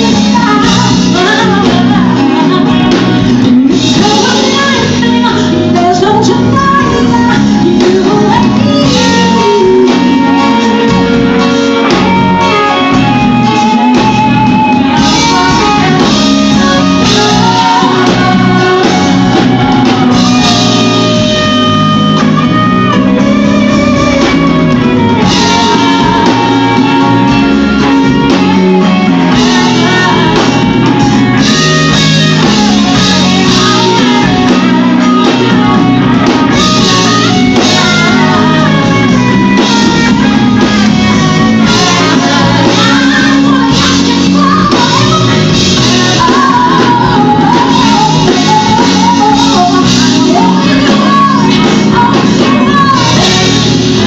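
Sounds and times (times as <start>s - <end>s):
bass guitar: 0.0s - 54.0s
drums: 0.0s - 54.0s
electric guitar: 0.0s - 54.0s
keyboard: 0.0s - 54.0s
woman singing: 0.0s - 54.0s.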